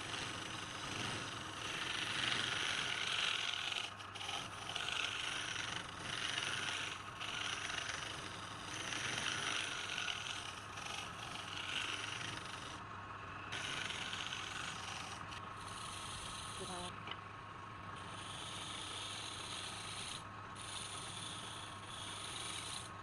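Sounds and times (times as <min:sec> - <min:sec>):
tool scraping wood on lathe: 0:00.0 - 0:12.9, 0:13.5 - 0:16.9, 0:17.9 - 0:23.0
lathe motor hum: 0:00.0 - 0:23.0.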